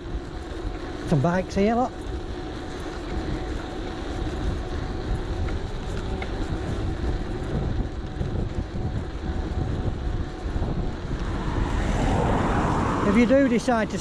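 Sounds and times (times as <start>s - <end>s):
tyres rolling on road: 0.0s - 14.0s
wind rumbling on microphone: 0.0s - 14.0s.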